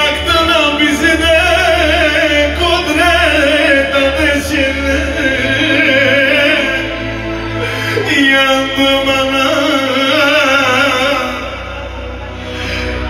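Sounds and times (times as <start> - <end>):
electronic keyboard melody: 0.0 - 13.0
steady bass: 0.0 - 13.0.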